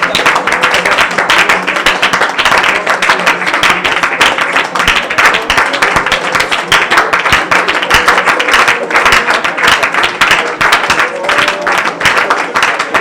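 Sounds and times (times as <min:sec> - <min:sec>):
congregation praying aloud: 0:00.0 - 0:13.0
hand clapping: 0:00.0 - 0:13.0.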